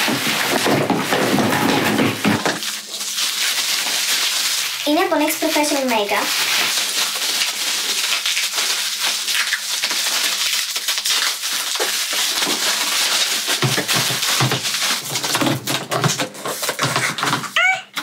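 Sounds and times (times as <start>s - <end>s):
bubble wrap crinkling: 0.0s - 17.6s.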